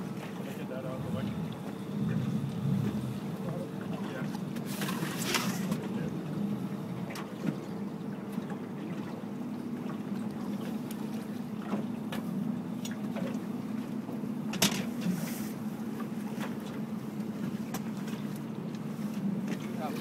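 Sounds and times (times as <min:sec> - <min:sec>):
boat motor idling: 0:00.0 - 0:20.0.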